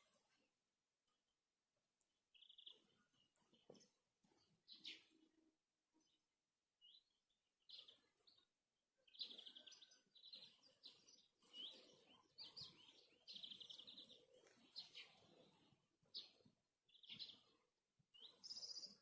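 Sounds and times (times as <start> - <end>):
faint songbird singing: 2.0 - 19.0.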